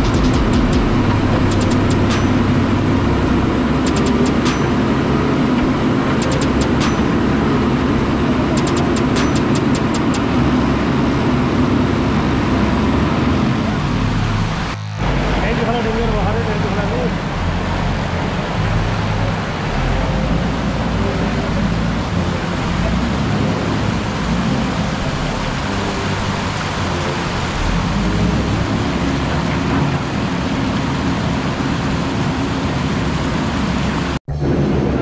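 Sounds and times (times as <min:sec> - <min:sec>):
rain falling: 0:00.0 - 0:34.2
floodwater rushing: 0:00.0 - 0:34.8.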